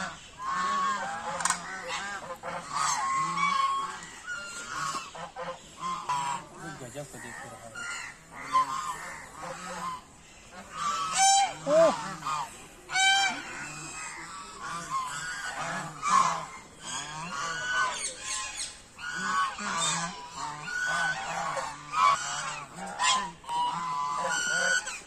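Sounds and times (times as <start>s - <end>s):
flock of birds calling harshly: 0.0s - 25.0s.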